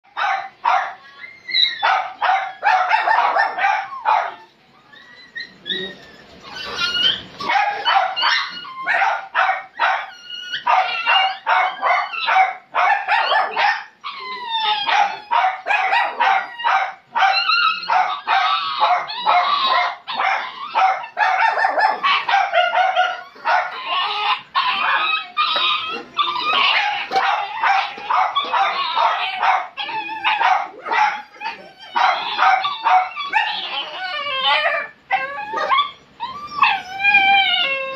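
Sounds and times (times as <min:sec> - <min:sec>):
small dogs yipping and barking: 0:00.1 - 0:37.9
dogs whining: 0:00.9 - 0:12.4, 0:13.1 - 0:37.9.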